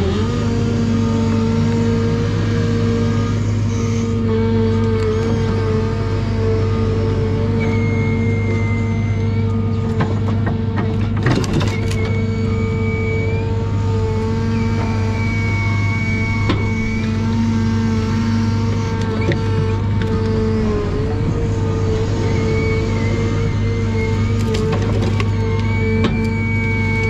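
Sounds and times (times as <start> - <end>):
forestry machine engine running: 0.0 - 27.0
hydraulic crane whine: 0.0 - 27.0.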